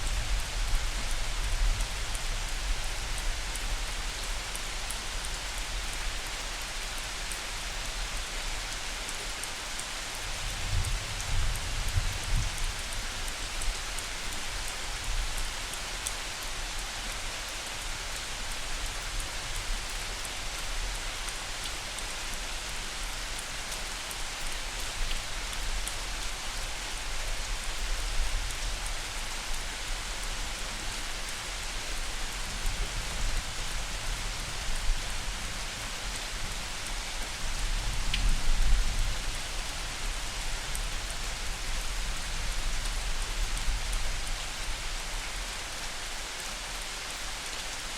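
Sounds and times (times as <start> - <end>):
scattered raindrops: 0.0 - 47.9
steady rain falling: 0.0 - 47.9.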